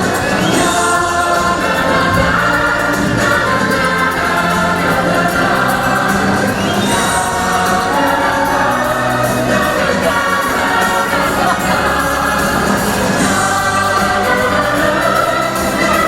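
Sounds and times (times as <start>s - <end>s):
choir singing over backing track: 0.0s - 16.0s.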